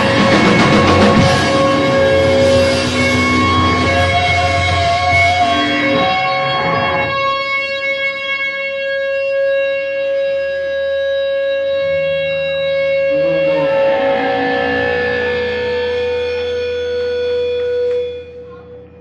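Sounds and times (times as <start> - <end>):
band distorted wash: 0.0 - 9.1, 10.1 - 19.0
electric guitar sustained note: 0.0 - 19.0.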